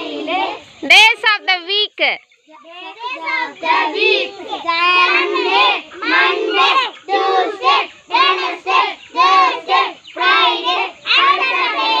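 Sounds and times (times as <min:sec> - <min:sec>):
children chanting a song: 0:00.0 - 0:00.9, 0:02.4 - 0:12.0.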